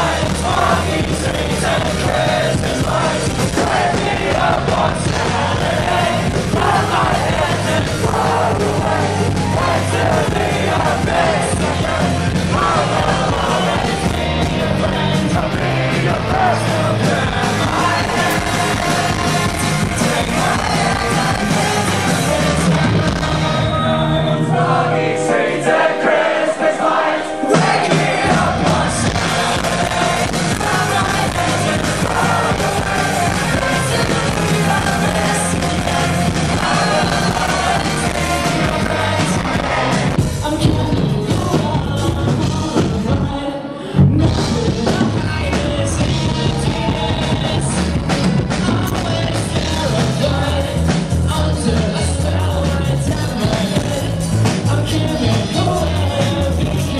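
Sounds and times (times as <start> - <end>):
person singing: 0.0 - 56.9
rock band playing live: 0.0 - 56.9.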